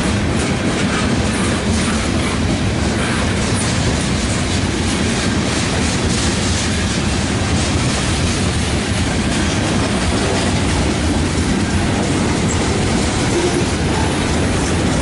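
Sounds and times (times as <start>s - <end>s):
freight train wheels clattering: 0.0s - 15.0s
wheels clacking over rail joints: 0.0s - 15.0s.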